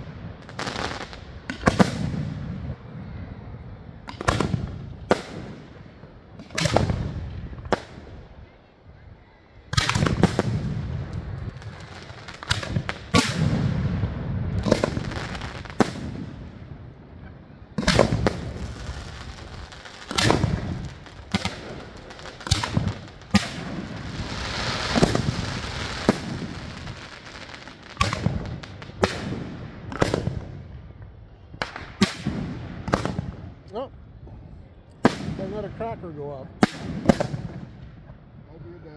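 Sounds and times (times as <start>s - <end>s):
fireworks bangs: 0.0s - 8.6s, 9.7s - 33.9s, 35.0s - 38.5s
low rumbling echo: 1.2s - 38.8s.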